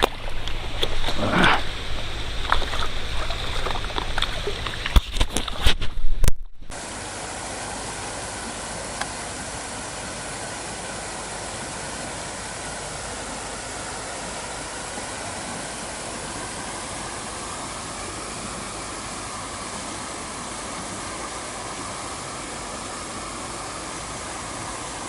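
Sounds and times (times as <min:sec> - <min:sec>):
river water flowing: 0:00.0 - 0:25.0.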